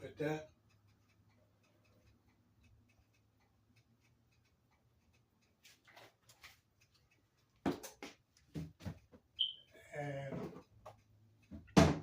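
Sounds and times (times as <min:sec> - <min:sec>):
light irregular ticking: 0:00.0 - 0:07.6, 0:08.2 - 0:11.8.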